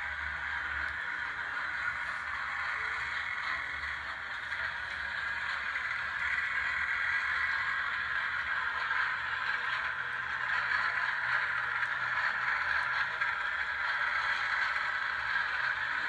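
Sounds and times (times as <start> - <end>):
model streetcar whirring: 0.0 - 16.0.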